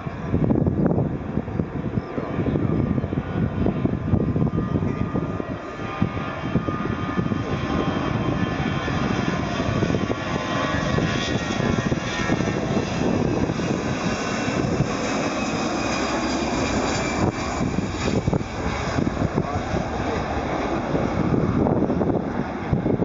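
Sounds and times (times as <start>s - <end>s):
jet engines running: 0.0s - 23.0s
wind buffeting microphone: 0.0s - 23.0s.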